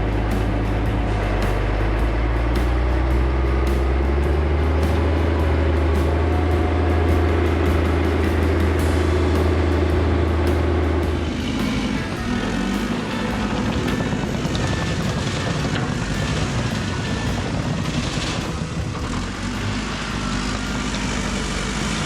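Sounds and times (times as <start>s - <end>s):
heavy equipment engine droning: 0.0s - 22.0s.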